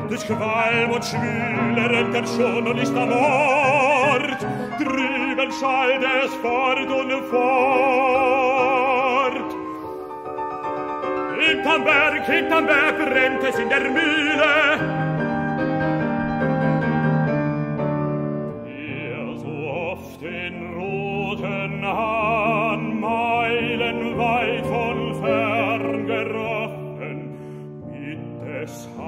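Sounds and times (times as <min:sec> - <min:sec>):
baritone singing with vibrato: 0:00.0 - 0:09.9, 0:11.0 - 0:15.4, 0:18.5 - 0:29.0
grand piano chords: 0:00.0 - 0:29.0.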